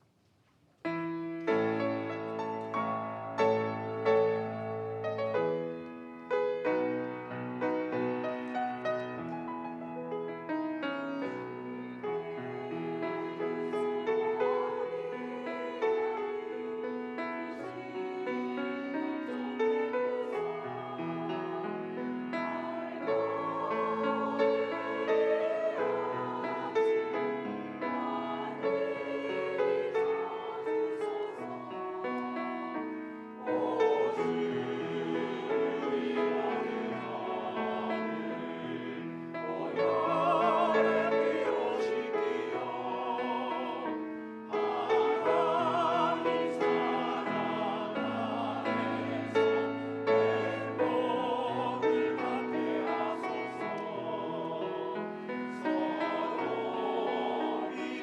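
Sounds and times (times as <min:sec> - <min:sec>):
choir singing a hymn: 0:01.1 - 0:58.0.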